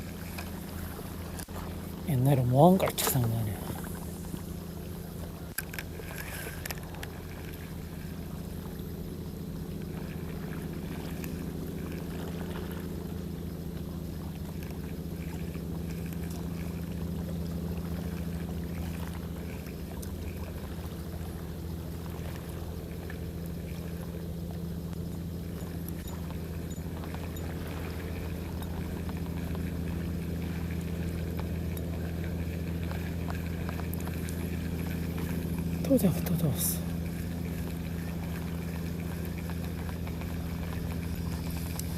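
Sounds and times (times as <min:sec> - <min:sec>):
low engine hum: 0:00.0 - 0:41.9.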